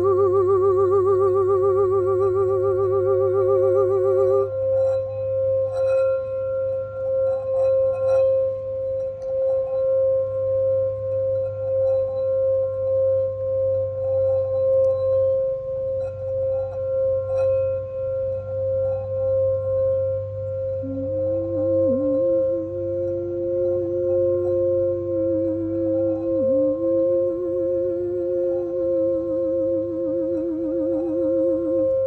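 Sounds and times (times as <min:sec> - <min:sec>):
crystal singing bowl tone: 0:00.0 - 0:32.0.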